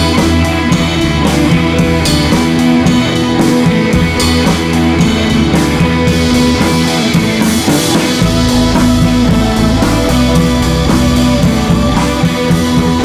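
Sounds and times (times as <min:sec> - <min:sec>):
background music: 0:00.0 - 0:13.0
deep bass line: 0:00.0 - 0:13.0.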